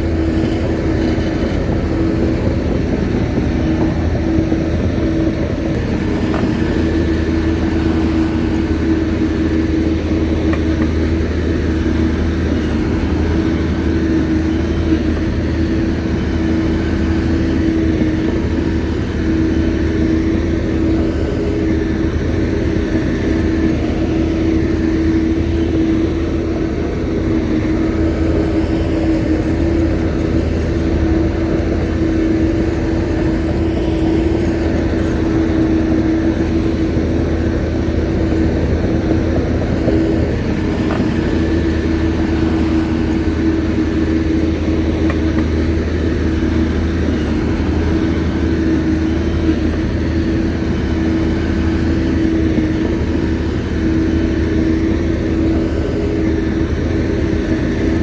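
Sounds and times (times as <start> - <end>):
bulldozer diesel engine humming: 0.0 - 58.0.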